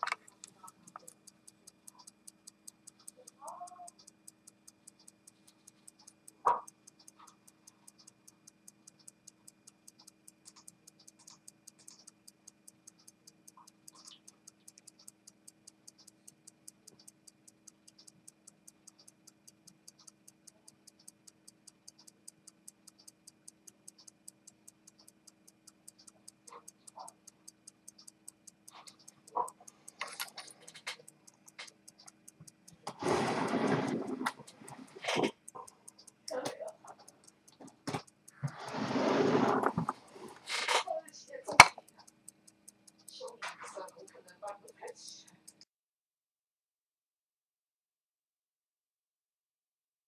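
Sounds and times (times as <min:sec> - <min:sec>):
watch ticking: 0:00.0 - 0:45.7.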